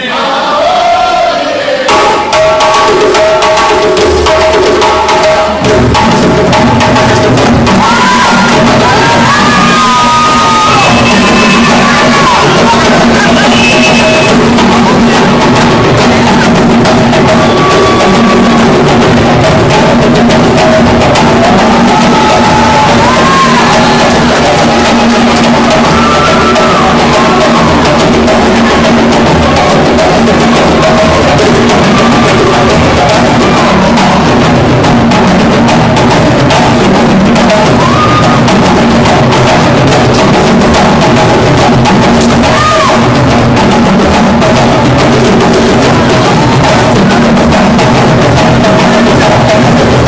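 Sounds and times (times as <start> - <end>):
djembe drum ensemble: 0.6 - 50.0.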